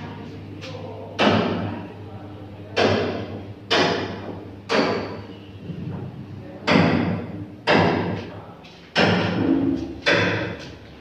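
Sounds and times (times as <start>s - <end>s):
hammering echoing in concrete rooms: 0.0s - 11.0s.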